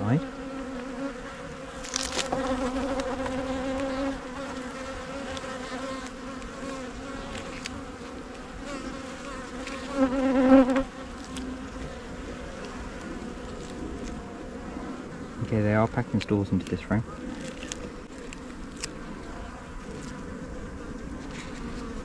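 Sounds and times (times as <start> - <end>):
honey bees buzzing: 0.0 - 22.0.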